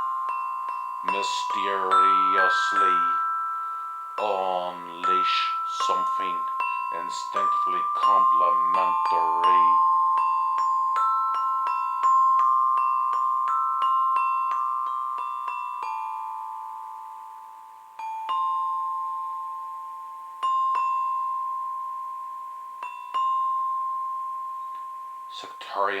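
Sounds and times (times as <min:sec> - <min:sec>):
mallet percussion ringing notes: 0:00.0 - 0:26.0.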